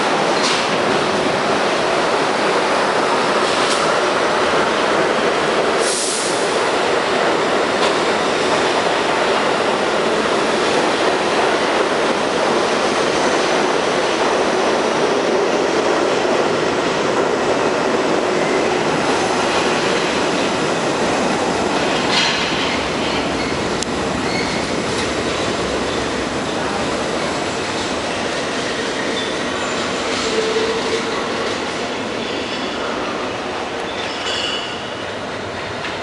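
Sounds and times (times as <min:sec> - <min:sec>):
train wheel and rail noise: 0:00.0 - 0:36.0.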